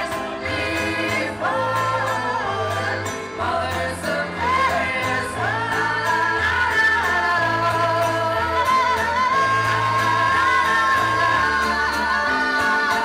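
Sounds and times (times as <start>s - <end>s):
bass line: 0.0s - 13.0s.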